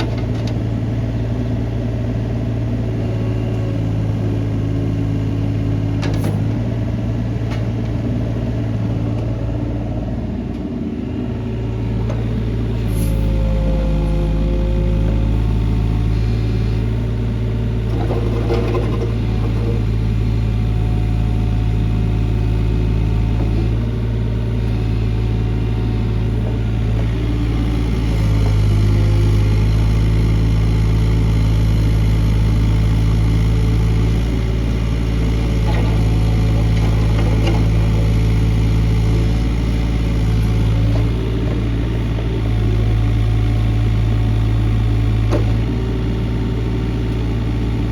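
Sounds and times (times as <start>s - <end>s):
mini excavator diesel engine running: 0.0s - 47.9s.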